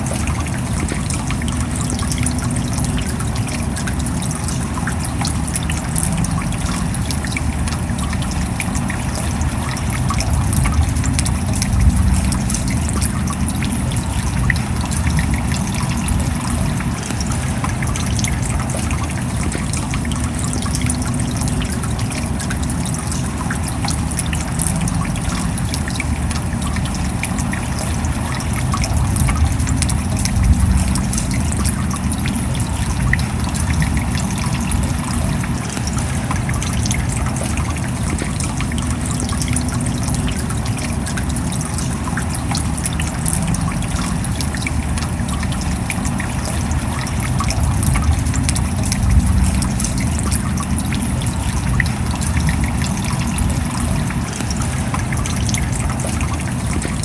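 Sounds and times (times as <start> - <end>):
steady rain: 0.0 - 57.0
trickling water: 0.0 - 57.0.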